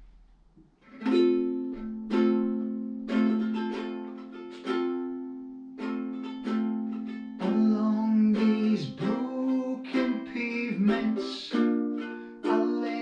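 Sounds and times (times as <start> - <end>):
acoustic string chords strummed: 0.8 - 13.0.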